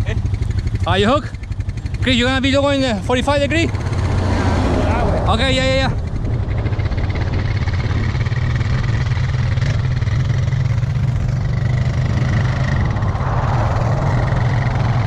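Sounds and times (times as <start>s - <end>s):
atv engine running at low revs: 0.0s - 15.0s.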